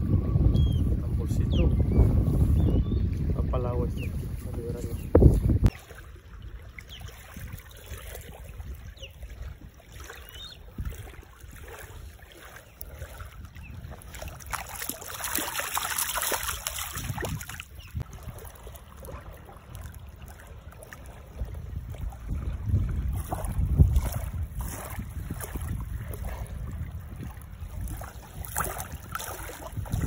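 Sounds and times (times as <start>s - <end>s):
wind rumbling on microphone: 0.0s - 30.0s
fish splashing in shallow water: 5.7s - 30.0s.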